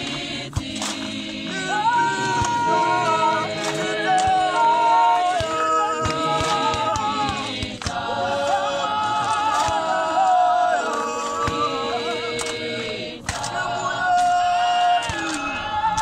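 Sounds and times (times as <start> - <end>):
choir singing a cappella: 0.0 - 16.0.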